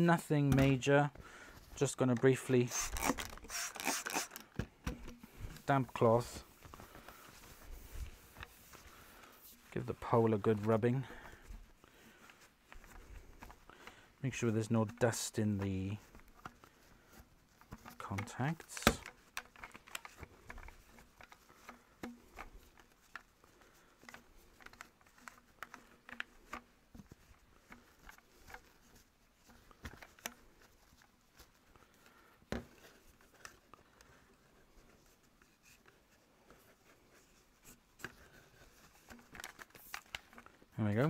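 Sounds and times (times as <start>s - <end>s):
light clicks and scrapes: 0.0s - 41.0s.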